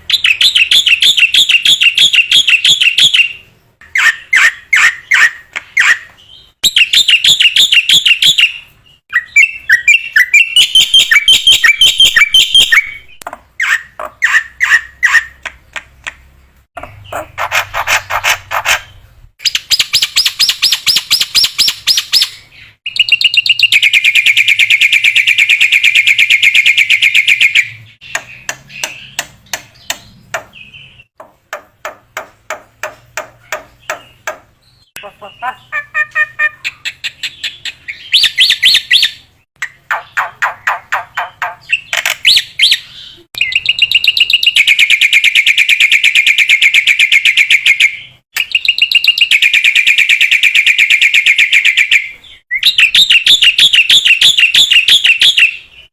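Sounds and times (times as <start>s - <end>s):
bird singing varied song: 0.0s - 31.2s, 32.2s - 55.9s.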